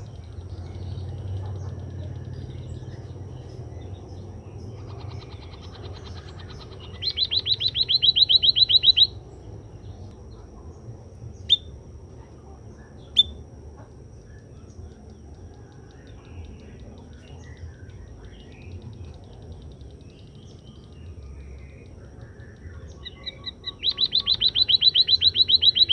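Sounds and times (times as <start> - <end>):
bird chirping: 0.0 - 25.9.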